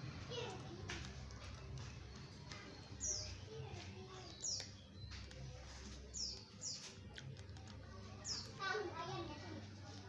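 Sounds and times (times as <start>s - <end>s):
small bird chirping: 0.4s - 8.9s.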